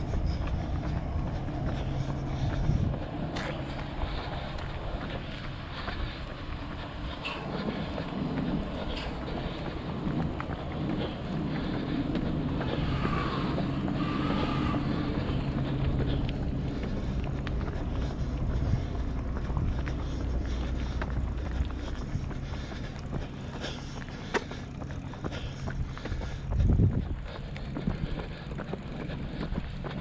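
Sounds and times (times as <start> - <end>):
low engine hum: 0.0 - 30.0
outdoor background noise: 0.0 - 30.0.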